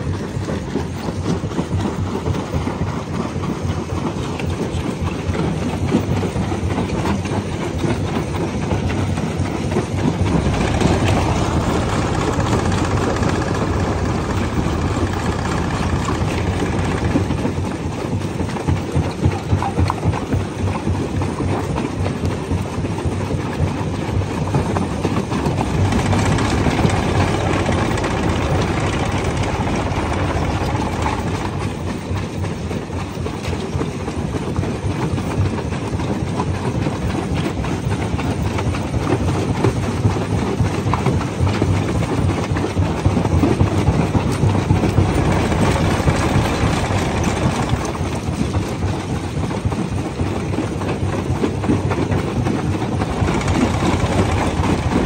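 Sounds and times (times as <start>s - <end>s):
rock crusher rumbling clatter: 0.0s - 55.0s.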